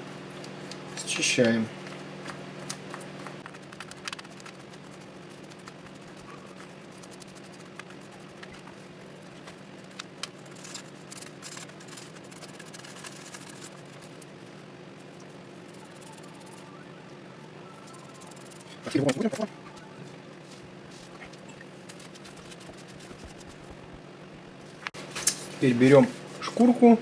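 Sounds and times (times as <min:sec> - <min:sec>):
steady low hum: 0:00.0 - 0:27.0
small brush scrubbing: 0:03.8 - 0:26.6.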